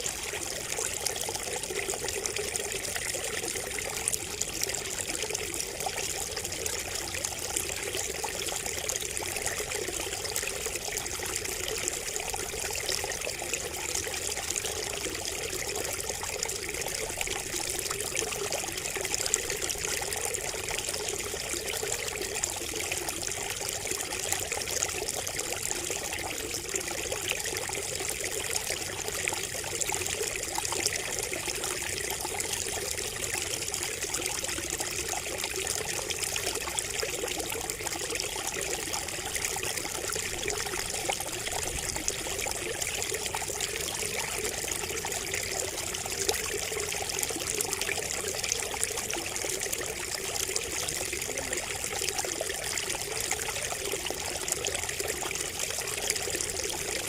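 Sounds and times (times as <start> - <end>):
water trickling from a spout: 0.0 - 57.0.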